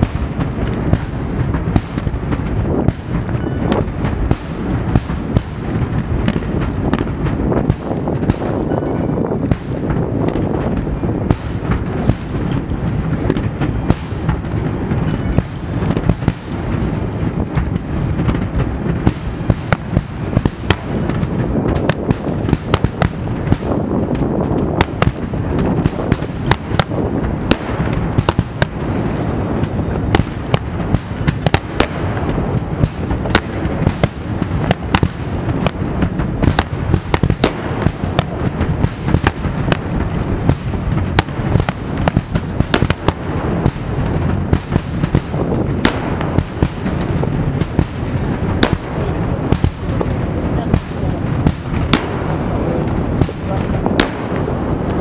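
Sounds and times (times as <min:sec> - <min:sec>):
fireworks booming: 0:00.0 - 0:55.0
fireworks cracking: 0:00.0 - 0:55.0.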